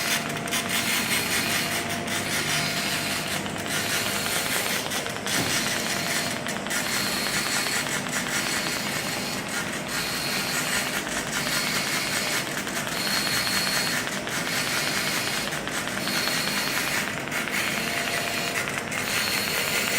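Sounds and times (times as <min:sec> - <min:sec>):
welding arc crackling hiss: 0:00.0 - 0:19.9.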